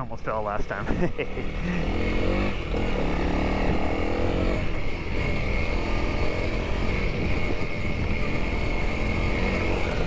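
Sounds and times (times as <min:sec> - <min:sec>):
motorcycle engine under throttle: 0:00.9 - 0:10.0.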